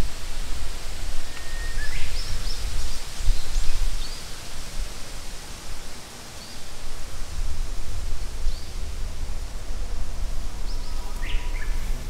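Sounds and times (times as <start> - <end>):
steady hiss: 0.0 - 12.0
wind rumbling on microphone: 0.0 - 12.0.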